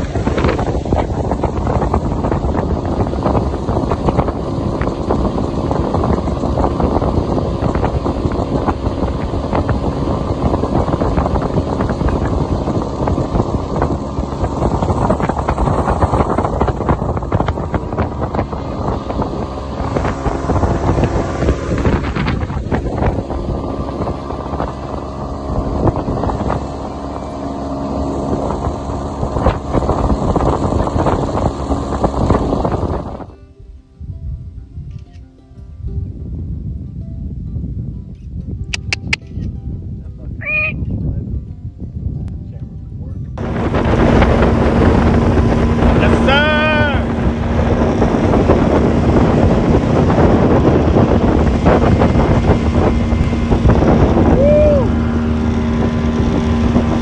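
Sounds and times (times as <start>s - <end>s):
outboard motor running: 0.0s - 33.4s, 42.0s - 57.0s
wind noise on microphone: 0.0s - 57.0s.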